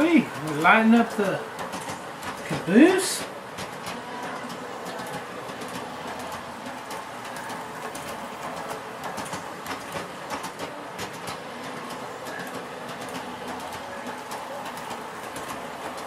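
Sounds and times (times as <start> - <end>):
wheels clicking over rails: 0.0 - 16.0.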